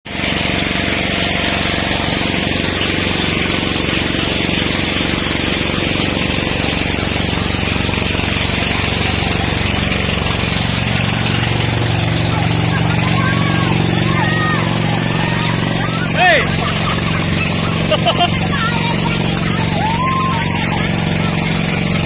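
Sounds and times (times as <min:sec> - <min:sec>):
engine running steadily: 0:00.1 - 0:22.0
loud rushing hiss: 0:00.1 - 0:22.0.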